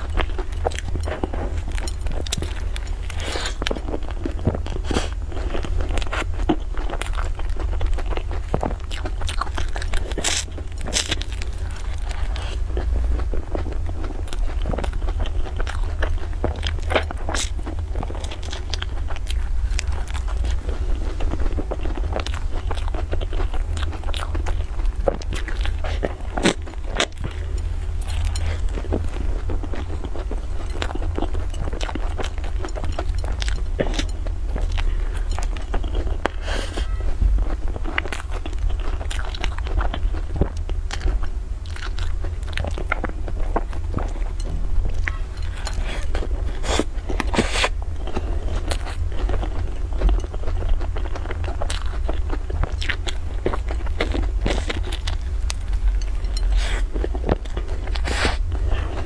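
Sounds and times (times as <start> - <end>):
crunching and chewing pastry: 0.0 - 59.0
low hum: 0.0 - 59.0.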